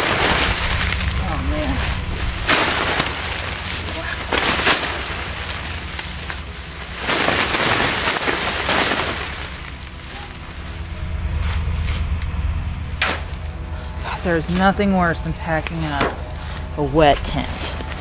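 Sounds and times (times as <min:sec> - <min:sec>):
wet nylon rainfly rustling: 0:00.0 - 0:12.1, 0:13.0 - 0:18.0.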